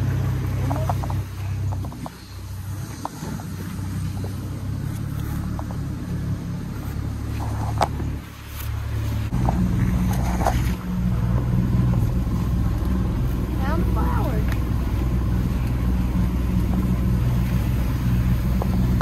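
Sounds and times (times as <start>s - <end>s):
boat motor rumbling: 0.0s - 19.0s.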